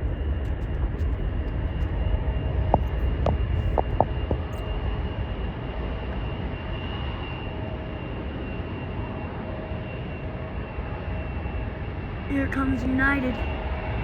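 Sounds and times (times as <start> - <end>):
high engine whine: 0.0 - 14.0
jet engines rumbling: 0.0 - 14.0.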